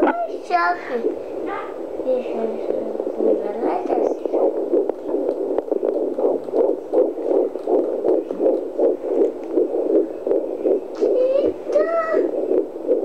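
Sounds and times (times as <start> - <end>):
fetal heartbeat on doppler speaker: 0.9 - 13.0.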